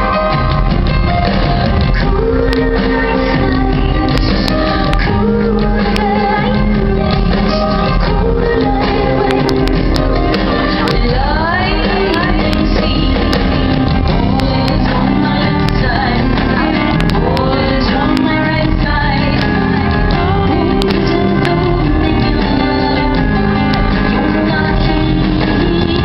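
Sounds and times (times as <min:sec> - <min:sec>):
live band playing: 0:00.0 - 0:26.0
woman singing: 0:01.7 - 0:26.0.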